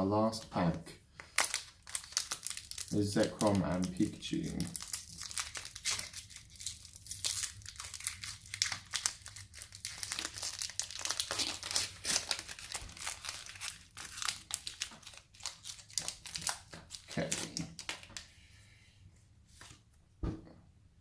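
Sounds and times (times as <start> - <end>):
foil wrapper tearing and crinkling: 1.2 - 18.3.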